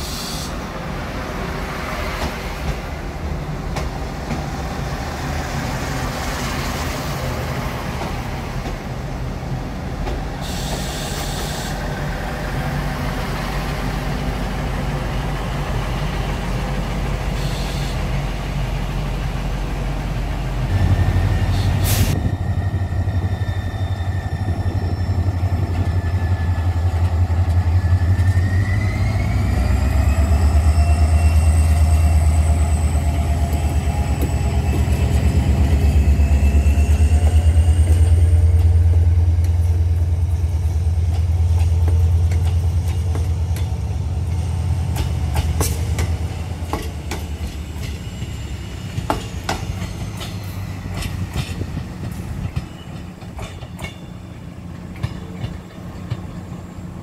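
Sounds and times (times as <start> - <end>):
diesel railcar engine rumble: 0.0 - 57.0
locomotive engine drone: 0.0 - 57.0.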